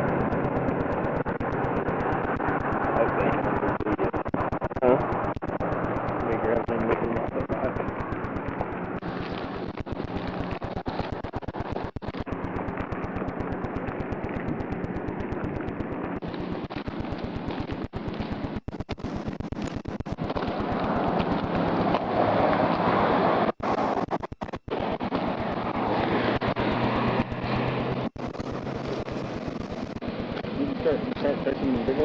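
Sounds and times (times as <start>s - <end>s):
fast even crackle: 0.0s - 32.0s
vehicle road and engine noise: 0.0s - 32.0s
wind on microphone: 0.0s - 32.0s.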